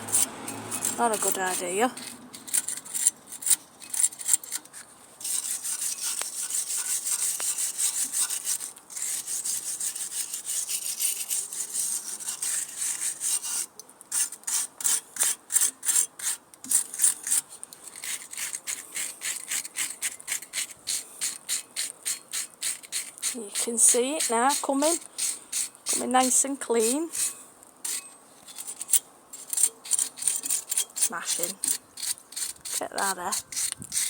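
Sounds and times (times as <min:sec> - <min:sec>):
stiff brush scrubbing: 0:00.0 - 0:34.0.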